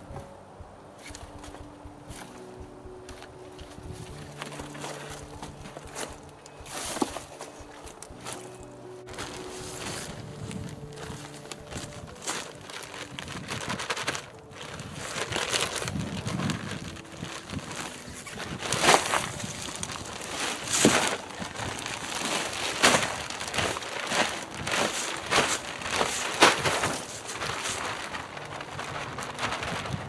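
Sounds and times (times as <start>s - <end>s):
plastic bag crinkling: 1.1s - 30.0s
soil spilling: 3.2s - 30.0s.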